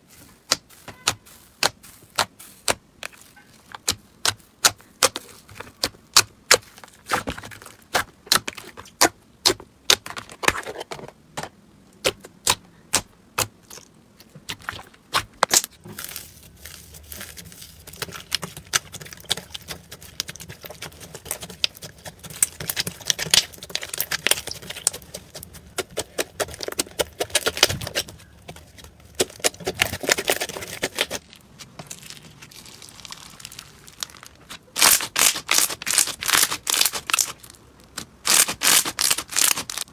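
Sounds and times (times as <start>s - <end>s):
slime popping and squishing: 0.5s - 10.5s, 12.0s - 39.9s.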